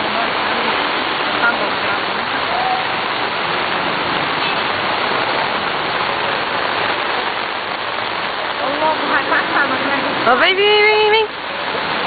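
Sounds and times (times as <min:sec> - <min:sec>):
heavy rain: 0:00.0 - 0:12.0
running floodwater: 0:00.0 - 0:12.0.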